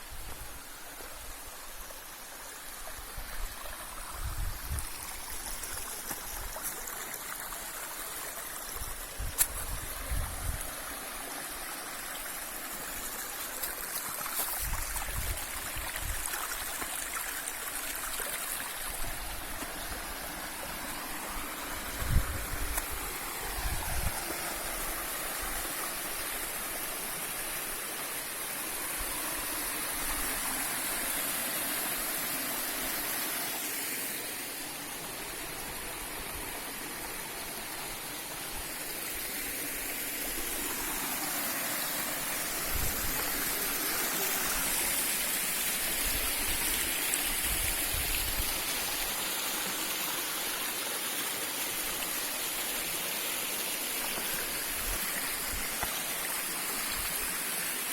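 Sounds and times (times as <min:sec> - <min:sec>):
stream and waterfalls rushing: 0:00.0 - 0:57.9.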